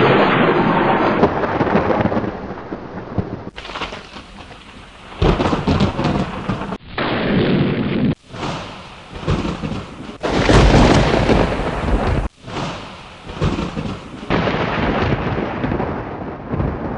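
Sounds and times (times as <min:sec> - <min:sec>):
steady rain: 0:00.0 - 0:07.2, 0:08.1 - 0:16.9
thunder rumbling: 0:00.0 - 0:16.9.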